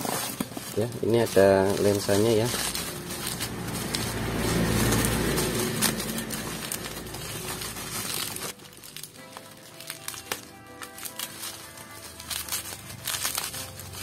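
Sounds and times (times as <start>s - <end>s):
bubble wrap crinkling: 0.0s - 14.0s
quiet background music: 0.0s - 14.0s.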